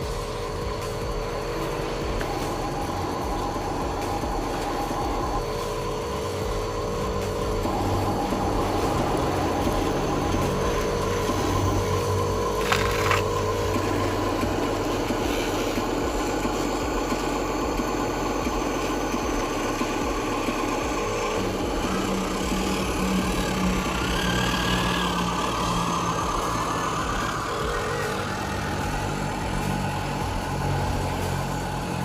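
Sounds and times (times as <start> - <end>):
model truck motor whirring: 0.0 - 32.0.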